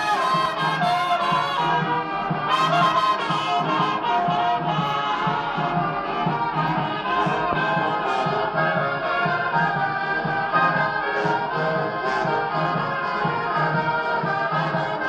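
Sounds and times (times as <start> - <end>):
flugelhorn melody: 0.0 - 15.0
sousaphone bass line: 0.6 - 14.8.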